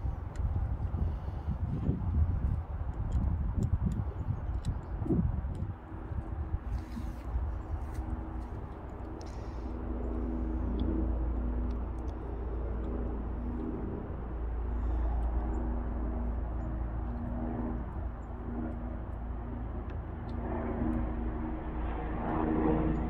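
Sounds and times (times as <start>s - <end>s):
motor hum with deep rumble: 0.0s - 23.0s.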